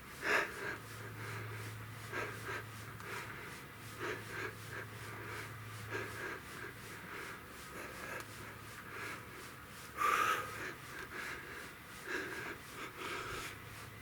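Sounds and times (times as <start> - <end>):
man breathing hard: 0.0 - 14.0
steady low hum: 0.0 - 14.0.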